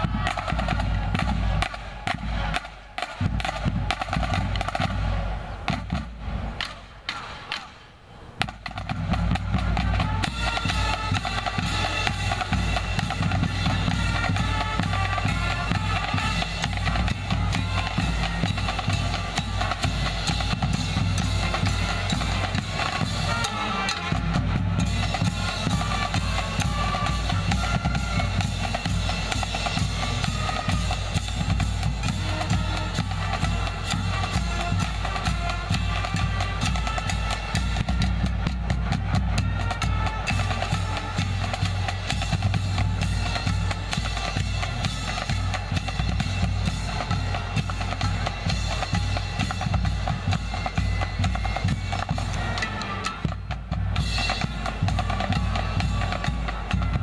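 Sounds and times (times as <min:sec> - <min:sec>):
snare and bass drum cadence: 0:00.0 - 0:07.8, 0:08.4 - 0:57.0
marching band playing: 0:00.0 - 0:57.0.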